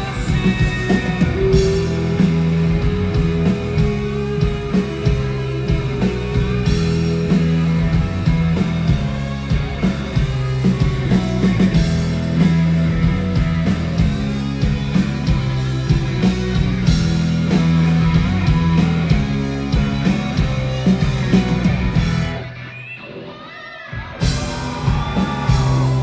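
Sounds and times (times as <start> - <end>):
electric guitar: 0.0 - 26.0
rock band playing live: 0.0 - 26.0.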